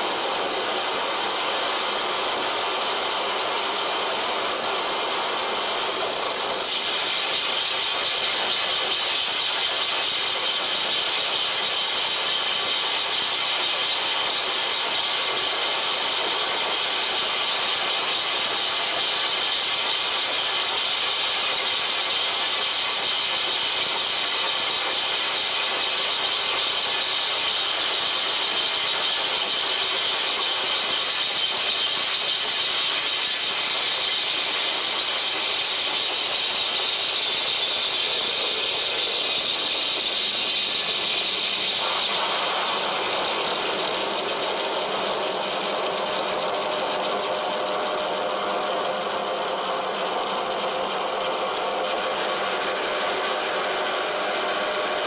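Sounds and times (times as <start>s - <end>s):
harsh noise music hiss: 0.0s - 55.0s.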